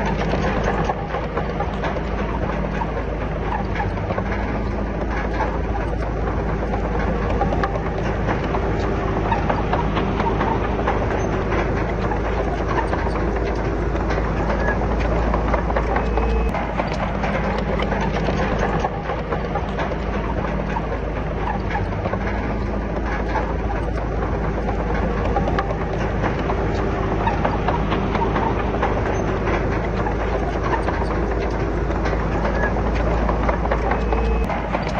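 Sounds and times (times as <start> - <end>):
diesel engine under load: 0.0 - 34.9
steel tracks clattering on rock: 0.0 - 34.9.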